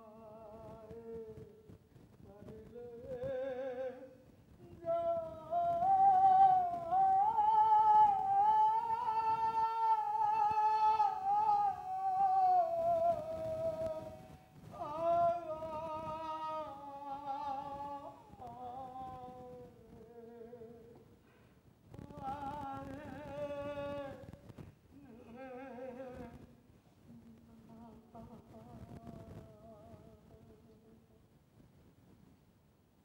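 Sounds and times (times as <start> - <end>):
person singing wordless held notes: 0.0 - 31.3.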